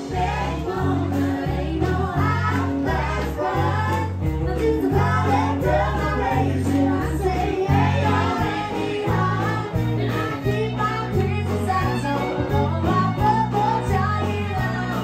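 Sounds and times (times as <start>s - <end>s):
instrumental backing with bass: 0.0s - 15.0s
woman singing country song: 0.0s - 15.0s.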